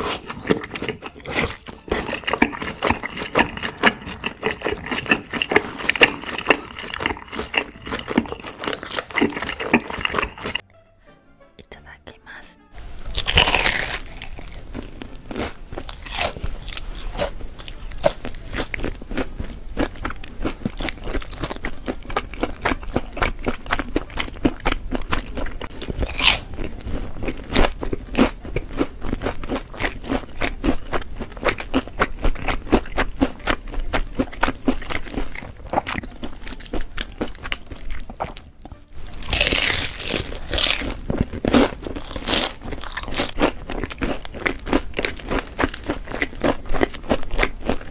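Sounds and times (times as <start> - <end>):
crunchy food chewing: 0.0 - 10.6, 12.8 - 47.9.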